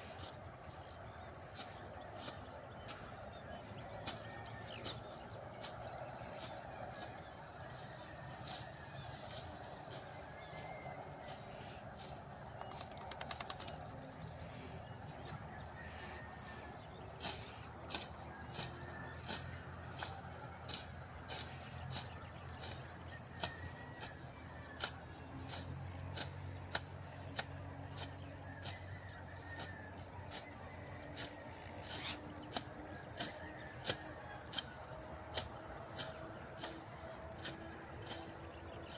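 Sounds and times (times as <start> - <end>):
sickle slicing grass: 0.0 - 0.8, 1.4 - 14.2, 16.4 - 38.9
insects chirring: 0.0 - 38.9.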